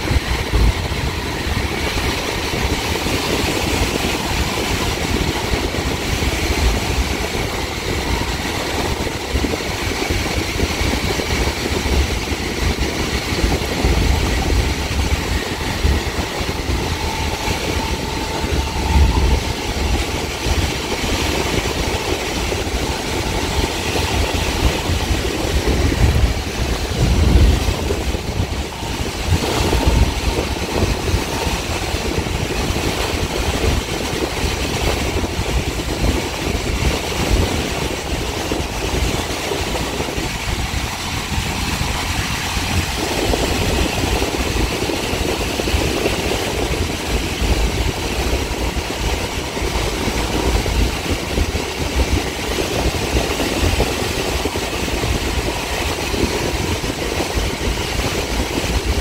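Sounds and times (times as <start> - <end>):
heavy low rumbles: 0.0 - 59.0
train wheels rumbling and rattling: 0.0 - 59.0.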